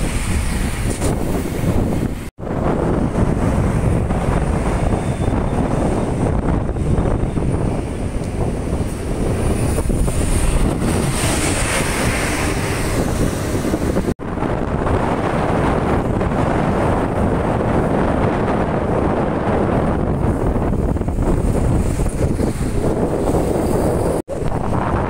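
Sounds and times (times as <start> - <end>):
buses and trucks driving past: 0.0 - 25.0
wind buffeting microphone: 0.0 - 25.0.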